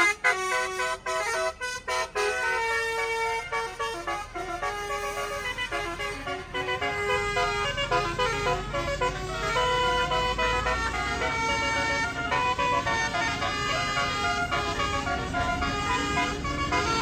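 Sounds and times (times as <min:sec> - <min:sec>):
low engine rumble: 0:00.0 - 0:17.0
musical bus horn playing a tune: 0:00.0 - 0:17.0.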